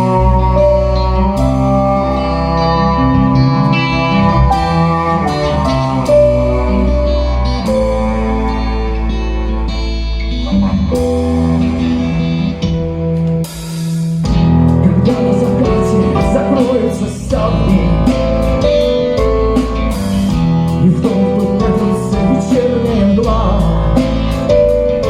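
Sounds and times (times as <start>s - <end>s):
bending guitar lead line: 0.0s - 25.0s
live band instrumental: 0.0s - 25.0s.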